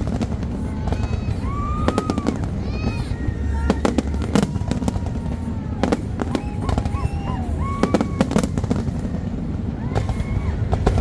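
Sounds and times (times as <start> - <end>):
fireworks bangs and crackles: 0.0 - 11.0
whistling fireworks: 0.0 - 11.0.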